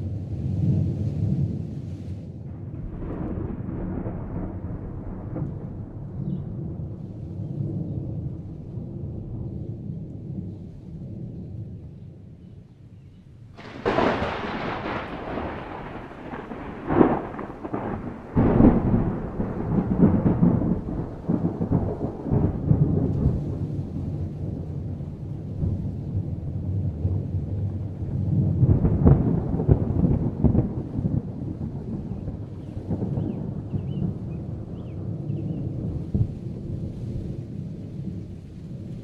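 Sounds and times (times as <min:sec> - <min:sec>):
thunder cracks and rumble: 0:00.0 - 0:12.3, 0:13.5 - 0:39.0.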